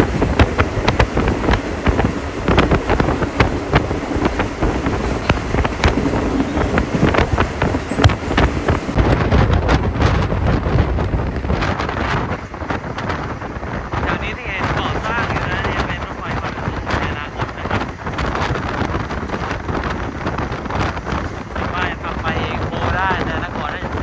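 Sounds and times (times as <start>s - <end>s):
train running gear rumble: 0.0s - 24.0s
wind buffeting microphone: 0.0s - 24.0s.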